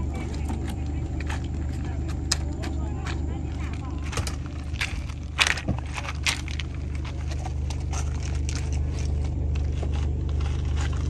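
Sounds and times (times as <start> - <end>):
car engine idling: 0.0 - 11.0
footsteps on pebbles: 0.0 - 11.0.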